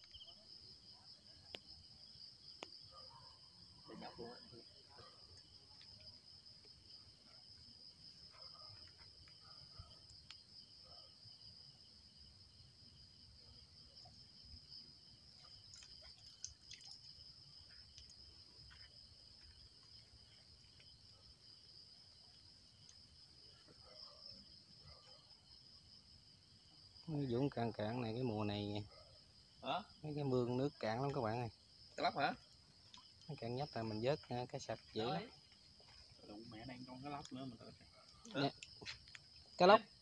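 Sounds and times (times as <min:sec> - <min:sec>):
night insects chorus: 0:00.0 - 0:40.0.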